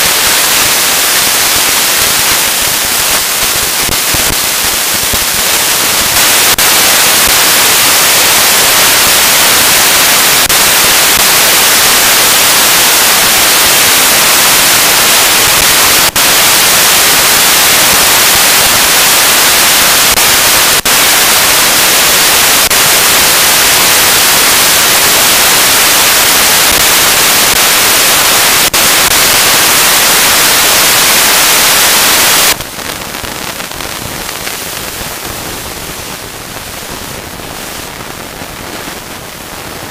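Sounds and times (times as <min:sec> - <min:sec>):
rushing wind on microphone: 0:00.0 - 0:39.9.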